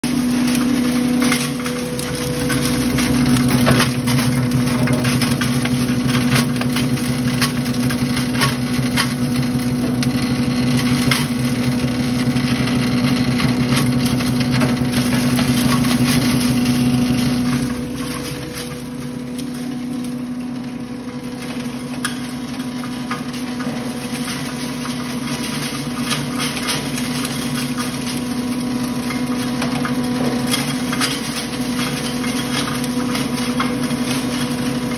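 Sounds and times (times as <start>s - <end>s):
crackle of material being ground: 0.0s - 34.9s
feed grinder humming: 0.0s - 34.9s.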